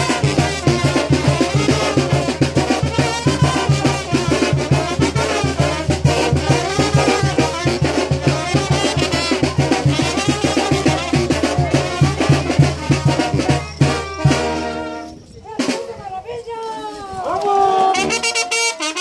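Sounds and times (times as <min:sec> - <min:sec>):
brass-led latin dance music: 0:00.0 - 0:15.8, 0:17.9 - 0:19.0.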